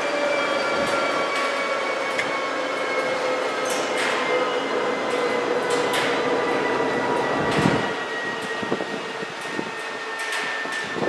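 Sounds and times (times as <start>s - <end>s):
gas turbine winding down: 0.0s - 11.0s.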